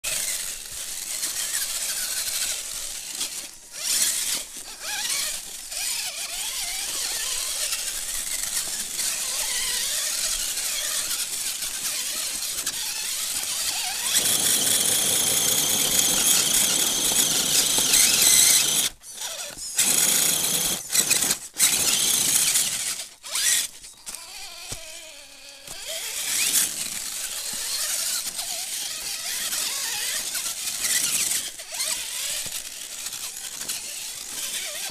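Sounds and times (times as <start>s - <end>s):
toy car driving over rock and leaves: 0.0s - 34.9s
electric motor whine: 0.2s - 32.6s.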